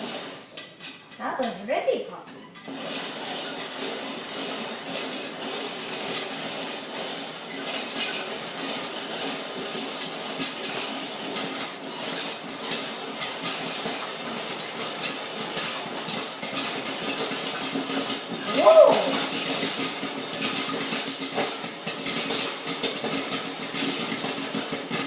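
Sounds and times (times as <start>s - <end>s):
popcorn popping in a covered pot: 0.0s - 25.0s.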